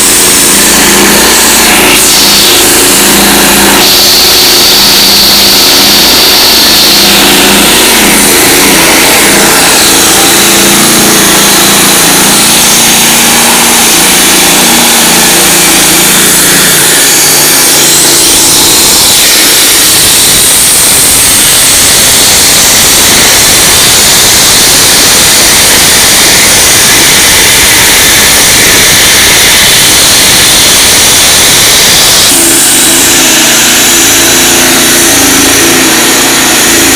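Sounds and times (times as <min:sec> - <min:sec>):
heavy construction machinery running: 0:00.0 - 0:36.9.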